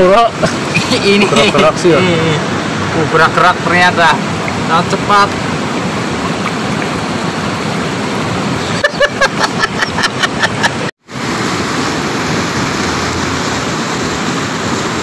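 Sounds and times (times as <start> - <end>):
river water rushing over boulders: 0.0 - 15.0.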